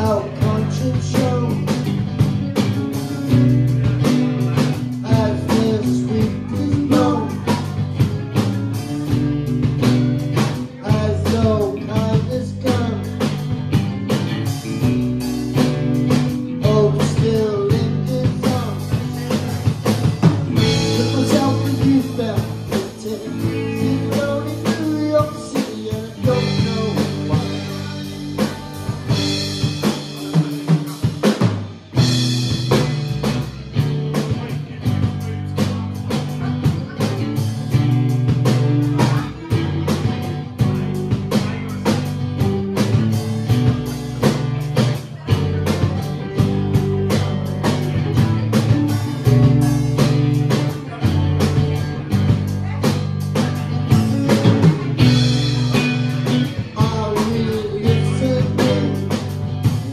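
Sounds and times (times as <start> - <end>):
bass guitar: 0.0 - 59.9
drum kit: 0.0 - 59.9
electric and acoustic guitars: 0.0 - 59.9.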